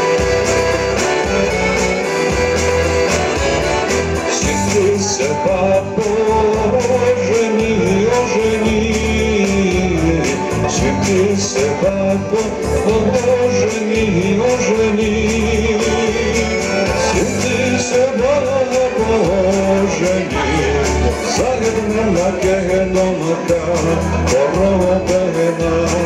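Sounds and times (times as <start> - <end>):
instrumental backing track: 0.0 - 26.0
man singing into microphone: 3.3 - 26.0.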